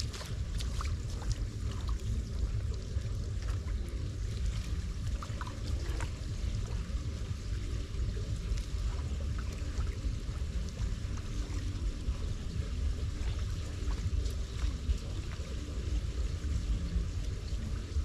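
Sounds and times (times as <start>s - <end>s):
footsteps in shallow water: 0.0s - 18.0s
steady low rumble: 0.0s - 18.0s
water trickling into storm drain: 0.0s - 18.0s.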